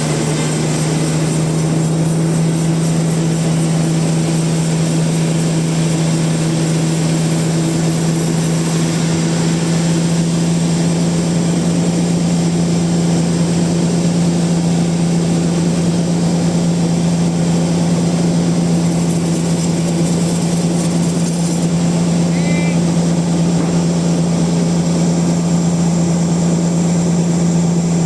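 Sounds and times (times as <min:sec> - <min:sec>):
band saw running: 0:00.0 - 0:28.0.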